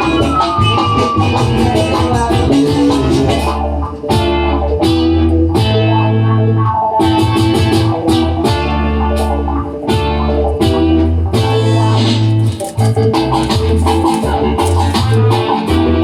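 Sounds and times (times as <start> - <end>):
bass line: 0.0 - 16.0
drums: 0.0 - 16.0
electric guitar: 0.0 - 16.0.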